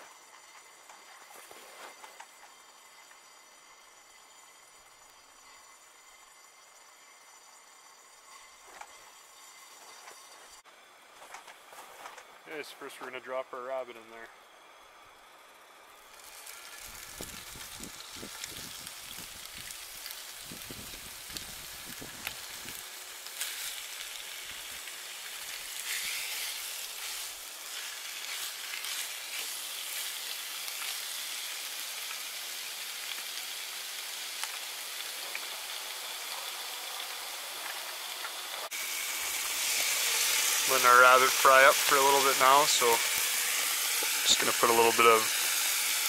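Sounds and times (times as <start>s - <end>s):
meat sizzling in a frying pan: 0.0s - 1.1s, 2.1s - 10.6s, 15.0s - 46.0s.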